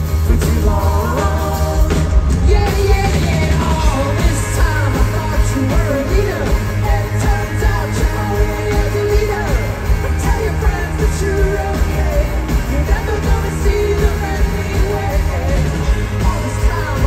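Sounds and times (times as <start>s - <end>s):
drums: 0.0s - 17.0s
electric guitars: 0.0s - 17.0s
keyboards: 0.0s - 17.0s
lead vocals singing: 0.0s - 17.0s
percussion: 0.0s - 17.0s.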